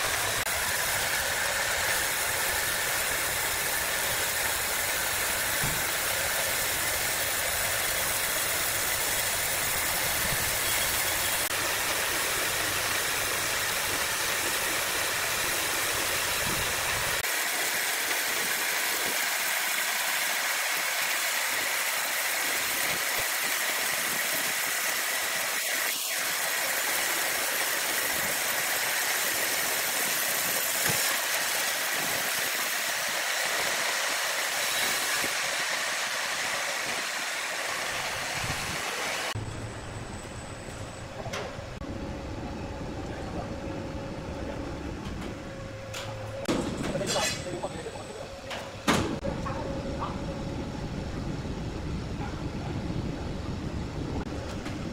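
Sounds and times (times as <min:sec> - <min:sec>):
band sawmill running: 0:00.0 - 0:54.9.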